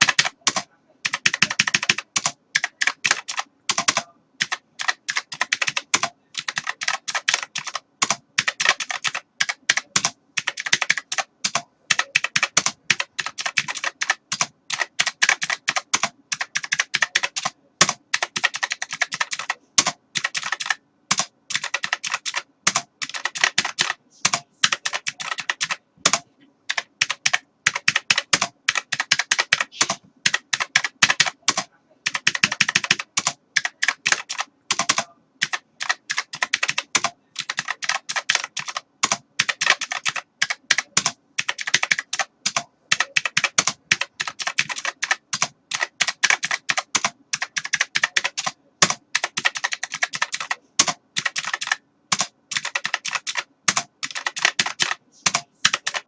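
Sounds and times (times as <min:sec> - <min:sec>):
keyboard typing clicks: 0:00.0 - 0:56.0.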